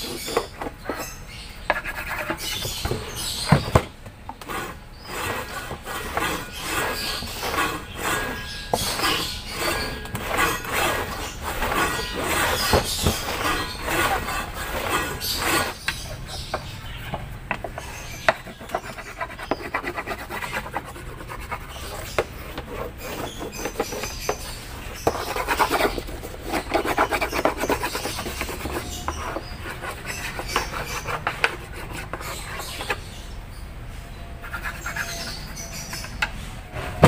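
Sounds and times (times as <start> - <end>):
wood being scraped by hand: 0.0 - 3.6, 4.4 - 16.7, 17.8 - 33.2, 34.4 - 36.1.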